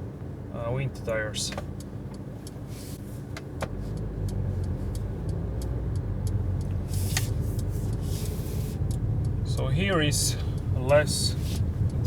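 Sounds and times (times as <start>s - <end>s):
car engine and tyres rumble: 0.0s - 12.0s
faint light ticks: 1.1s - 12.0s.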